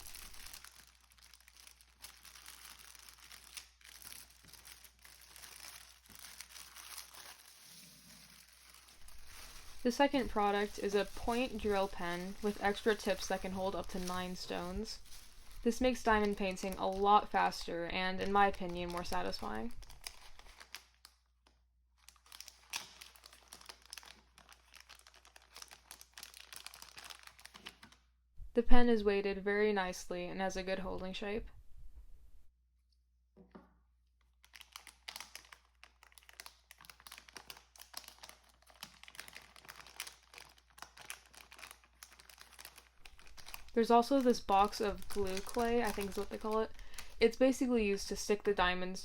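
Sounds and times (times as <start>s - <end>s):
packaging crinkling: 0.0s - 28.0s, 34.2s - 48.2s.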